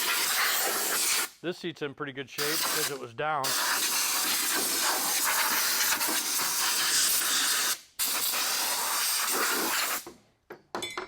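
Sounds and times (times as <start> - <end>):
compressed air hissing: 0.0 - 1.4, 2.4 - 10.1.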